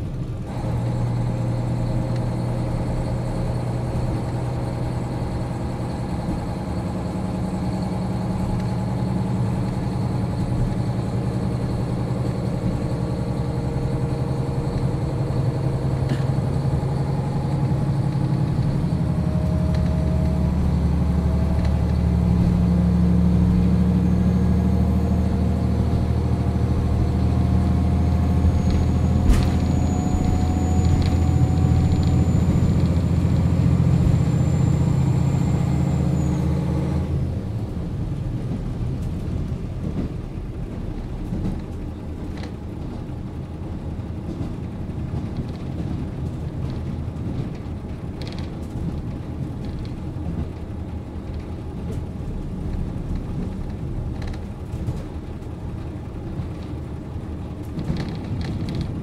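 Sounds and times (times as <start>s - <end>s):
diesel railcar engine droning: 0.0s - 59.0s.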